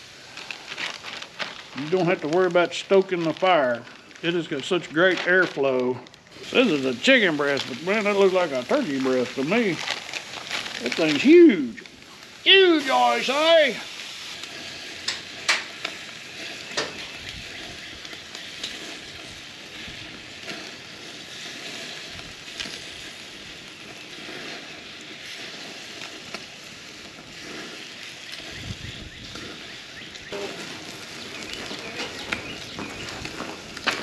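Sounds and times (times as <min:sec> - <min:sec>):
chicken sizzling on a grill: 0:00.0 - 0:34.0.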